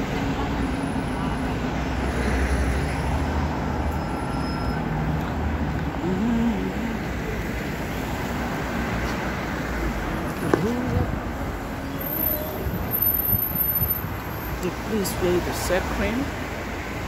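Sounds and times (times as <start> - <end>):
buses and cars passing: 0.0 - 17.0
low traffic hum: 0.0 - 17.0.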